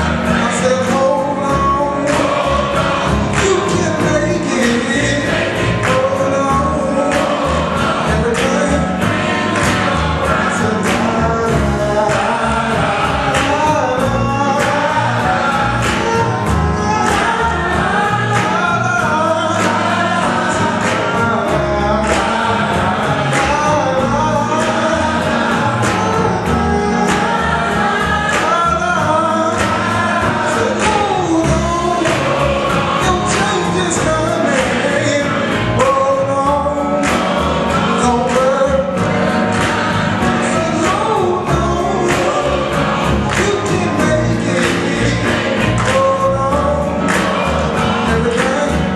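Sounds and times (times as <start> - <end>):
band playing beat and bass: 0.0 - 48.9
gospel choir singing: 0.0 - 48.9.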